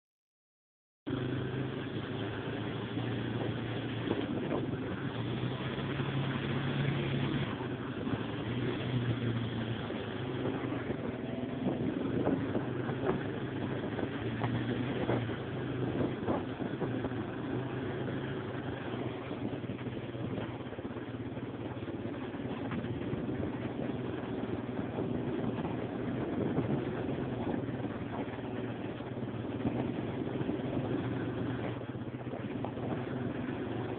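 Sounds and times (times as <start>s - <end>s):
atv engine running: 1.1s - 33.9s.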